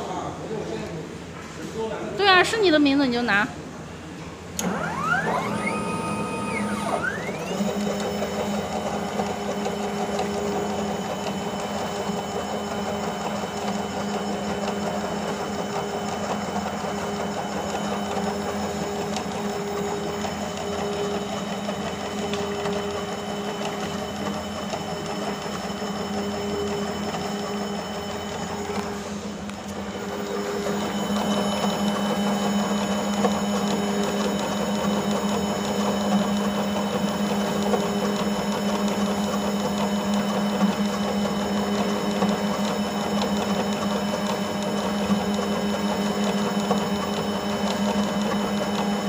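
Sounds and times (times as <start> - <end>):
high whine of spinning wheel: 4.6 - 49.0
tape-wrapping machine whirring: 4.6 - 49.0.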